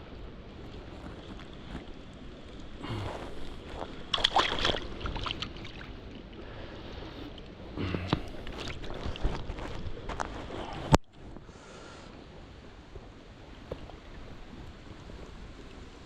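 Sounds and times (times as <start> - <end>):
stream water splashing: 0.0 - 15.8.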